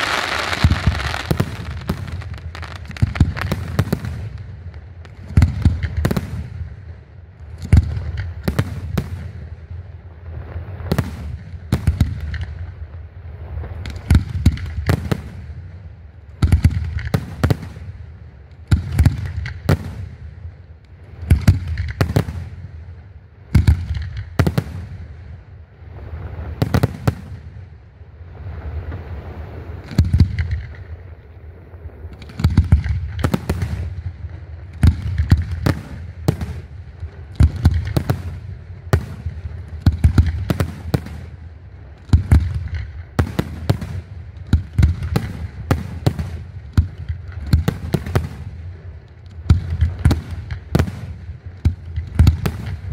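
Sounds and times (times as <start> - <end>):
firework bangs: 0.0 - 20.4, 21.1 - 52.9.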